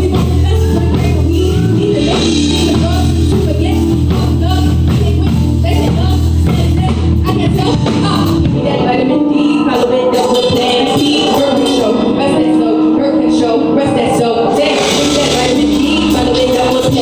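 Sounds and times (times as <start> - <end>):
heavy bass line: 0.0 - 8.6, 10.5 - 17.0
live band playing: 0.0 - 17.0
woman singing into microphone: 0.0 - 17.0.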